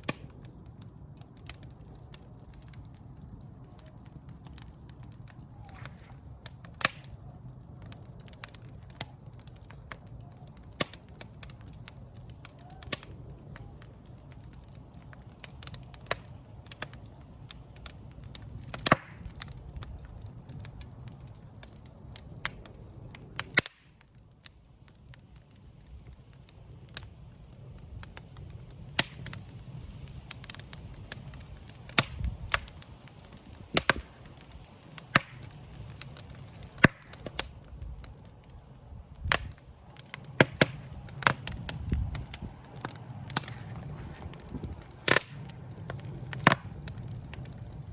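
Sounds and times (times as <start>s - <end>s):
burning wood popping and snapping: 0.0s - 47.9s
low rumble of flames: 0.0s - 47.9s.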